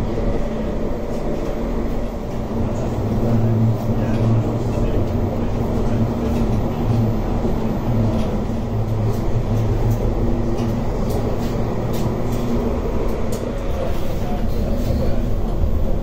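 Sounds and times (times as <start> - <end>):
tram rumbling along track: 0.0 - 16.0.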